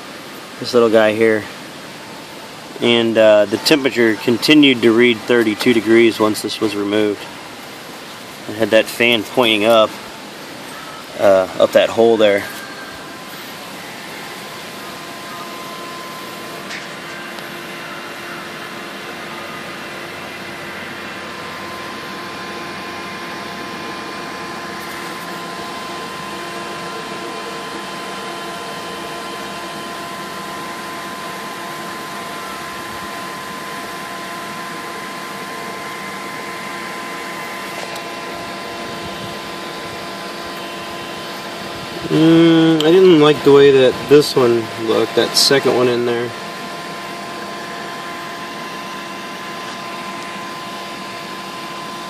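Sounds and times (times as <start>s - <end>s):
machinery whirring hum: 0.0s - 52.0s.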